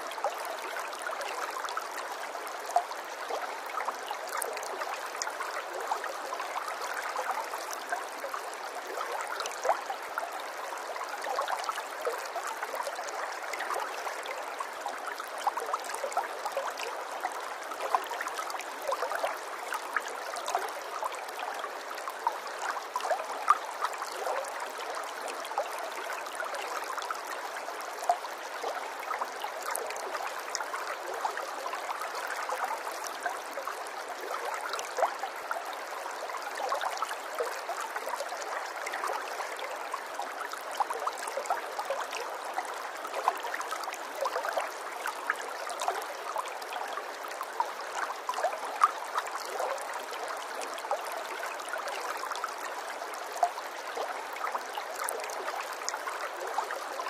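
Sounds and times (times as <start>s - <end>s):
stream babbling and trickling: 0.0s - 57.0s.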